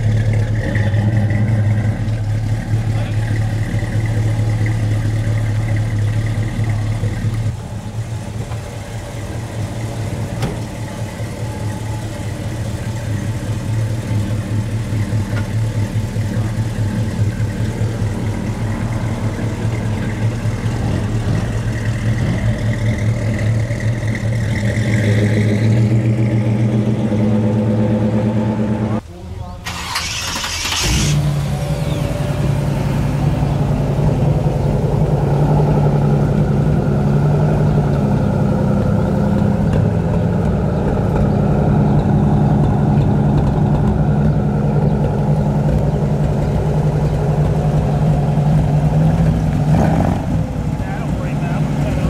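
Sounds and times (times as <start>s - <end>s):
car engine idling and pulling away: 0.0s - 52.0s.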